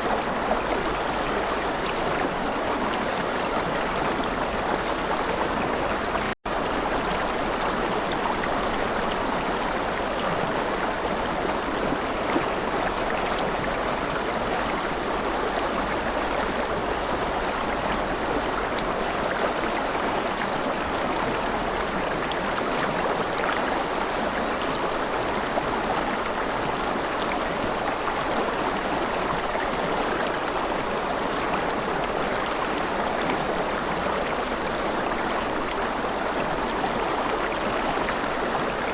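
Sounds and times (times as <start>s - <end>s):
river water flowing and splashing: 0.0s - 38.9s.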